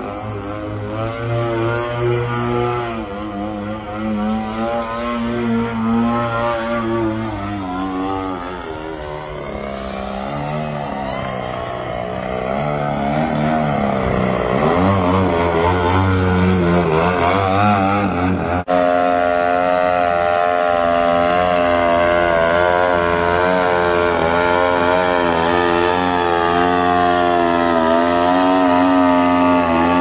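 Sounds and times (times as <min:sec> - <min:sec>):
model plane motor and propeller: 0:00.0 - 0:30.0.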